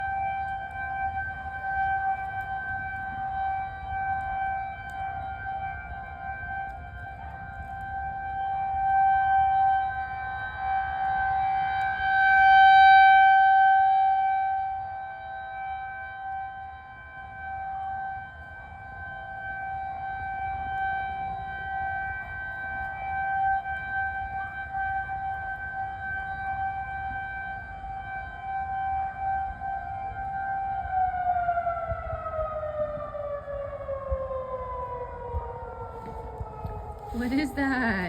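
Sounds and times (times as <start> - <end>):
warning siren steady tone: 0.0 - 38.0.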